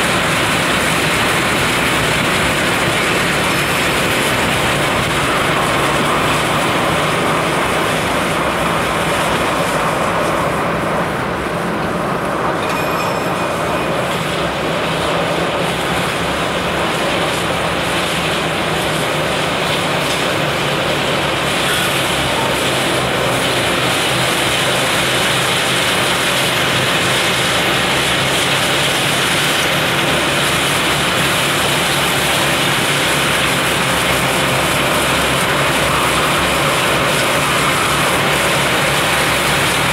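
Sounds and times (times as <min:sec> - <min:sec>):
snow blower engine and rotor running: 0:00.0 - 0:39.9.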